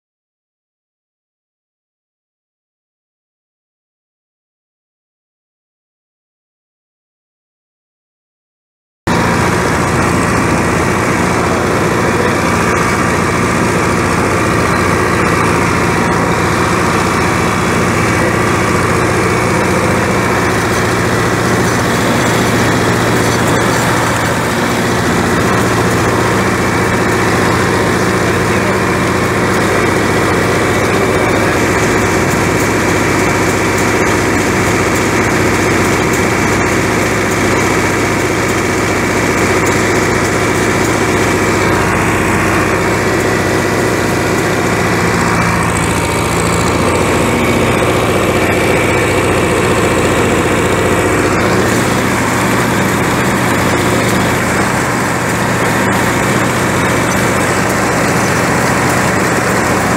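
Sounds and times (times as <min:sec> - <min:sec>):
tractor engine running: 0:09.1 - 0:59.9.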